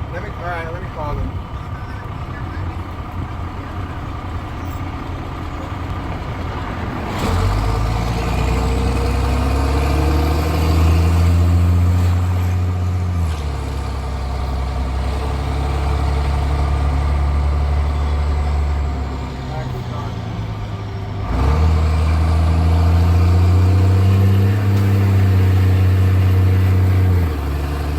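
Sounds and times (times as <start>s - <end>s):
loud throaty diesel engine: 0.0s - 27.9s.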